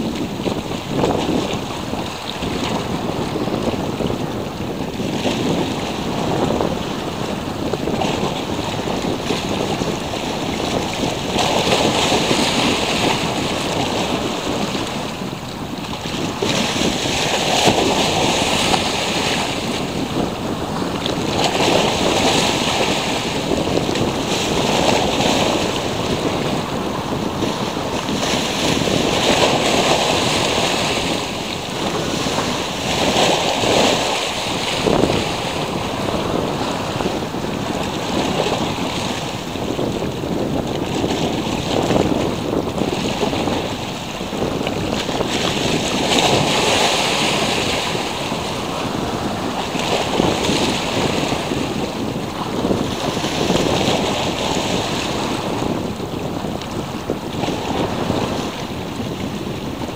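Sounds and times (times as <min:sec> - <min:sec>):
sea waves breaking: 0:00.0 - 0:59.9
wind rumbling on microphone: 0:00.0 - 0:59.9.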